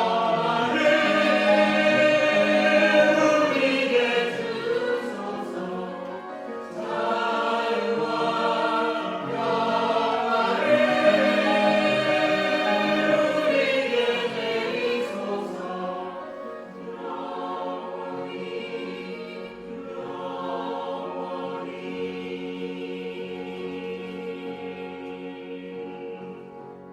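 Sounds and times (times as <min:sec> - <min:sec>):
church choir singing: 0:00.0 - 0:26.9.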